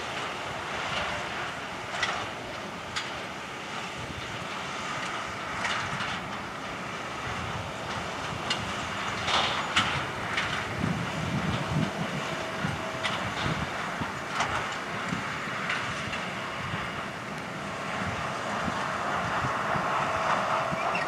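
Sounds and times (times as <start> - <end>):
distant tractor running: 0.0 - 21.0.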